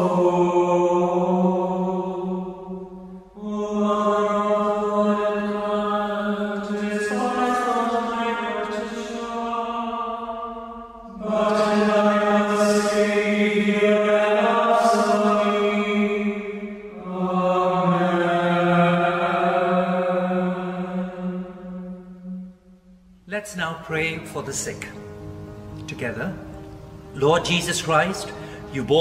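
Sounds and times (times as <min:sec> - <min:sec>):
slow devotional chanting: 0:00.0 - 0:29.0.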